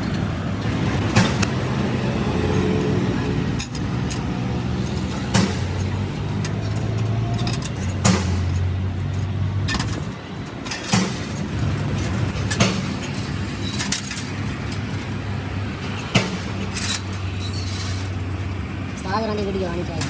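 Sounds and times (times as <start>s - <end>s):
metallic clinks and knocks: 0.0s - 19.5s
engine humming: 0.0s - 20.0s.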